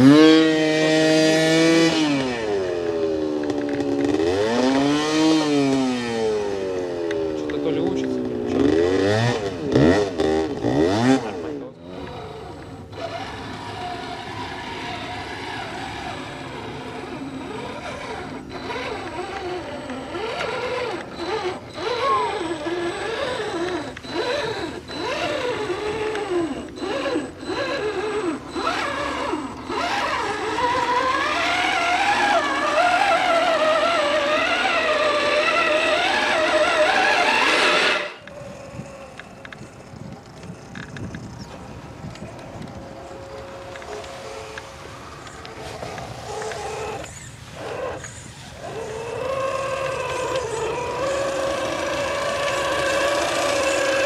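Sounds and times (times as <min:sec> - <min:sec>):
electric motor and gearbox whining: 0:00.0 - 0:54.0.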